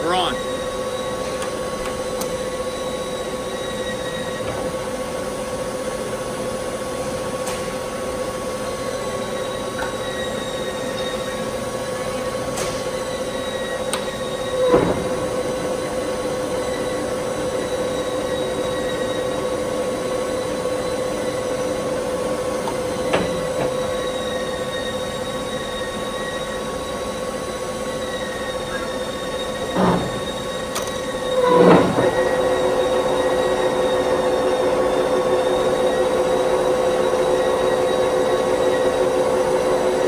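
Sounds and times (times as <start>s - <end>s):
lathe whining: 0.0s - 40.0s.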